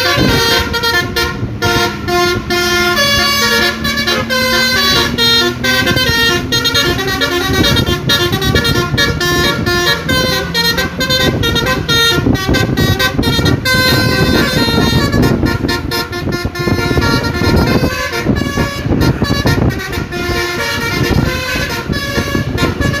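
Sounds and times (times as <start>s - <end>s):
bus musical air horn: 0.0s - 23.0s.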